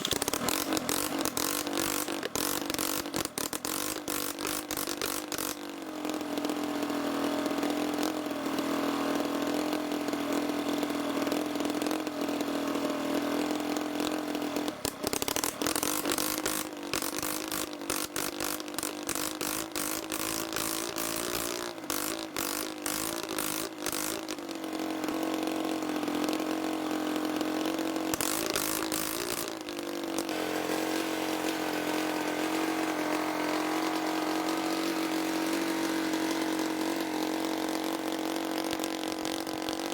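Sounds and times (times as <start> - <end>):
motorcycle engine humming: 0.0 - 39.9.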